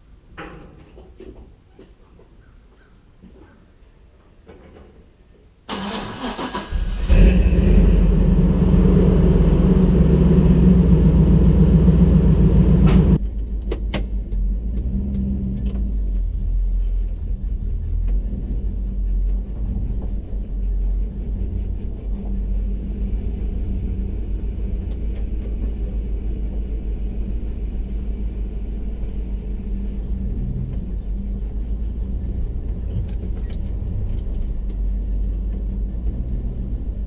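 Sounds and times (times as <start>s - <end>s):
truck engine cranking and idling: 5.7s - 37.0s.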